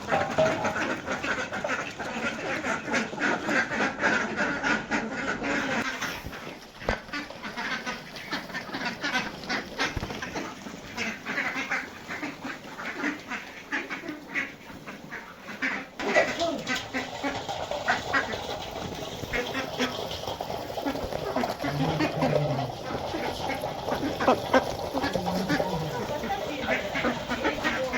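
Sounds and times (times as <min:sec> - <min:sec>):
ducks quacking: 0:00.0 - 0:27.9.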